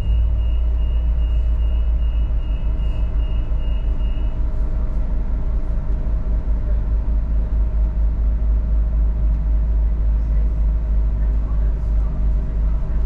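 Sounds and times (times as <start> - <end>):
diesel railcar rumbling on rails: 0.0 - 13.0.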